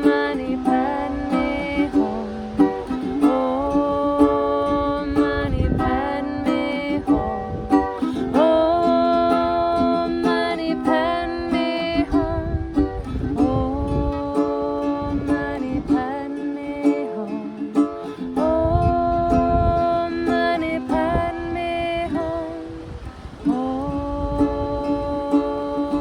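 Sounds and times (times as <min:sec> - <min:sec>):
person singing wordless notes: 0:00.0 - 0:26.0
ukulele strumming: 0:00.0 - 0:26.0.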